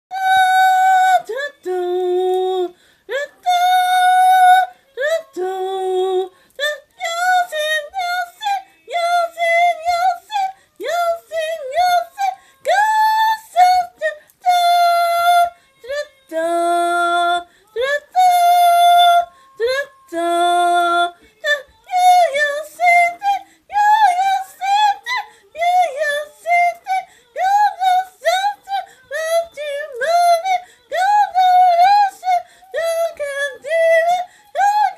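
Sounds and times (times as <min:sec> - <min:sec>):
high voice yodeling: 0:00.1 - 0:34.9.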